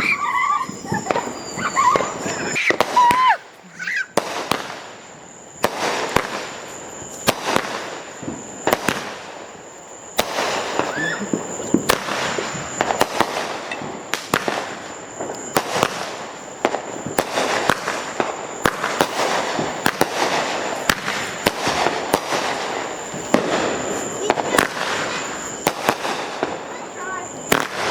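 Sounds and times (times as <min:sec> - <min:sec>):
fireworks cracking and popping: 0:00.0 - 0:27.9
fireworks crackle: 0:00.0 - 0:27.9.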